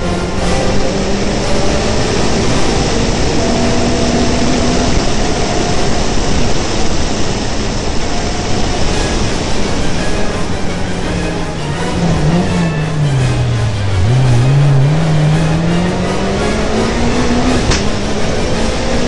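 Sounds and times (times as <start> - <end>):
car engine running hard: 0.0 - 19.0
road noise: 0.0 - 19.0.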